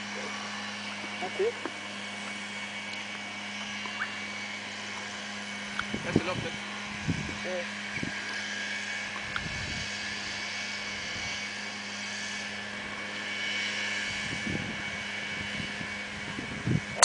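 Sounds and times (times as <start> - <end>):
outdoor background hum and hiss: 0.0 - 17.0.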